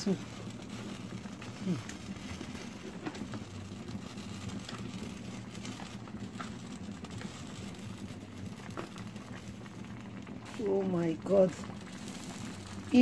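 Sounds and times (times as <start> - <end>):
soup bubbling in a pot: 0.0 - 13.0
steady low hum: 0.0 - 13.0.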